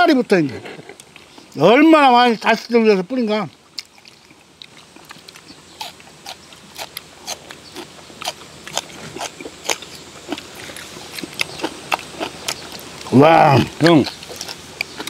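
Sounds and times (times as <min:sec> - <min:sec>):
people chewing and smacking: 0:00.5 - 0:01.6, 0:03.5 - 0:15.0.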